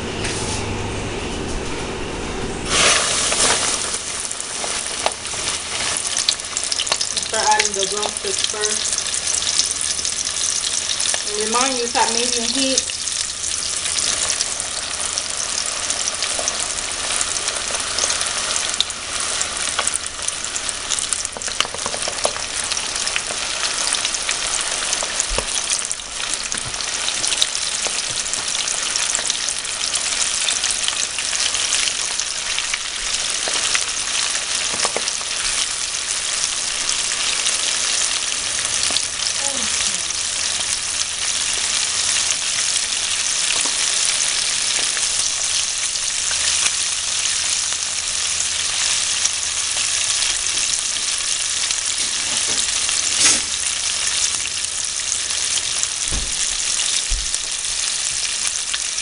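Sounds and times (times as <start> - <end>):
chicken deep-frying in oil: 2.6 - 59.0.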